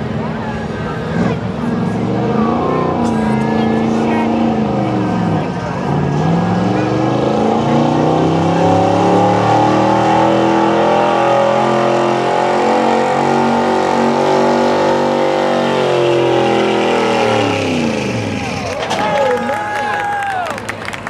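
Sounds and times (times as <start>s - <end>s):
truck engine revving high: 0.0s - 21.0s.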